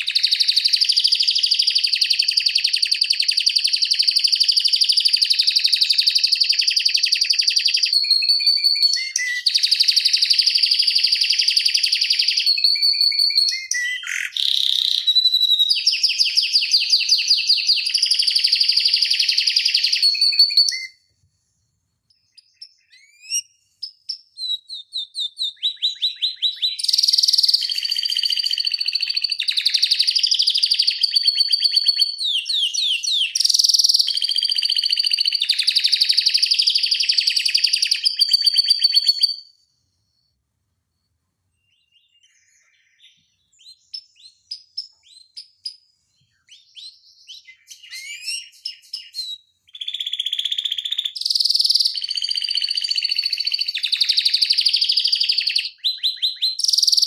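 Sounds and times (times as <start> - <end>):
canary singing trills: 0.0 - 21.0, 22.2 - 39.6, 41.6 - 57.0.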